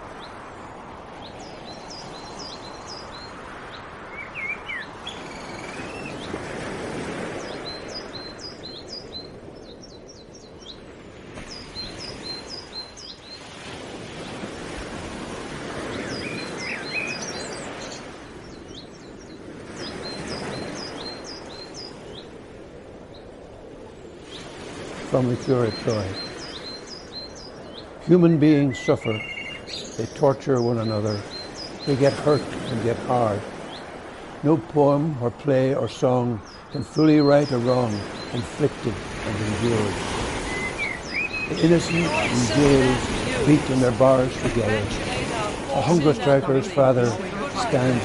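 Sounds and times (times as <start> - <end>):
outdoor noise: 0.0 - 48.0
small birds chirping: 0.0 - 48.0.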